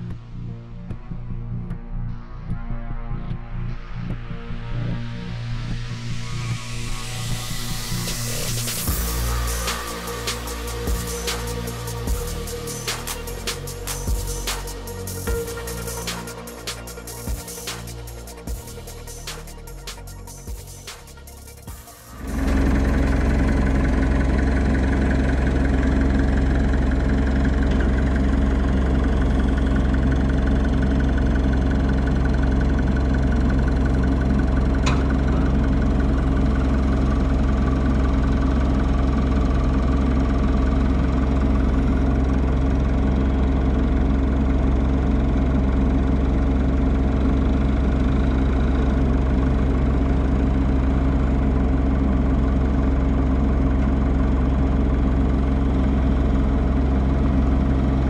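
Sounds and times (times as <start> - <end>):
diesel engine running steadily: 3.9 - 58.0.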